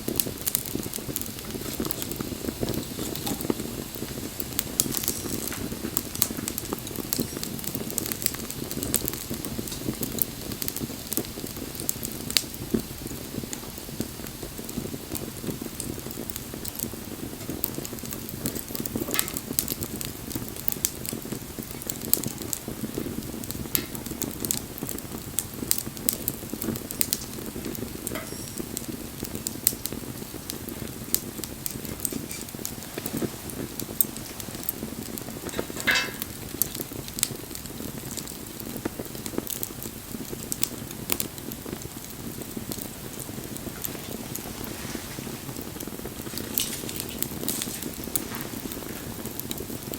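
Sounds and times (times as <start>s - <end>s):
bonfire flames rushing: 0.0s - 49.9s
fire pops and crackles: 0.0s - 49.9s.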